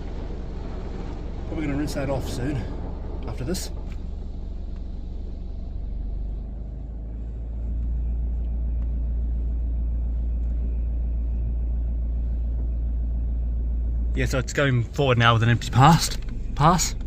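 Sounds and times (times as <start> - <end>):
car wash machine rumbling: 0.0 - 17.0.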